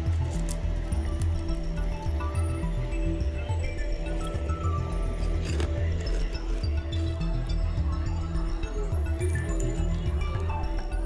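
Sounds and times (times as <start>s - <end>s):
music with deep bass line: 0.0s - 11.0s.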